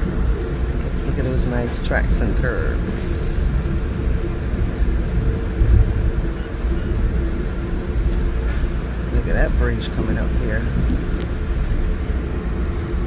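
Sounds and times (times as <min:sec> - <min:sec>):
train rumble inside passenger car: 0:00.0 - 0:13.0.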